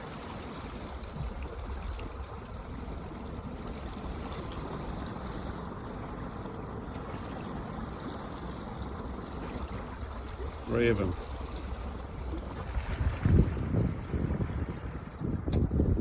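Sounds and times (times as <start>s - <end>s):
water rushing along hull: 0.0s - 16.0s
low engine rumble: 0.1s - 16.0s.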